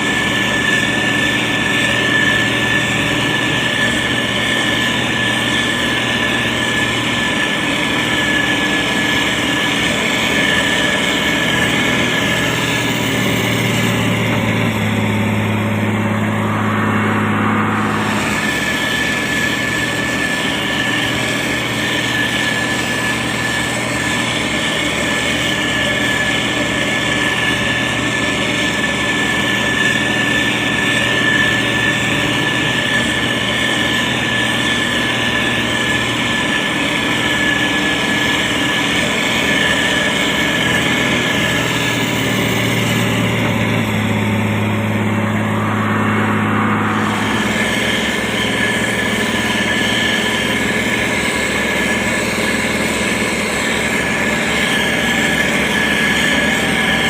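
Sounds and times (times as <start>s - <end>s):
diesel engine running: 0.0s - 57.0s
steady high whine: 0.0s - 57.0s.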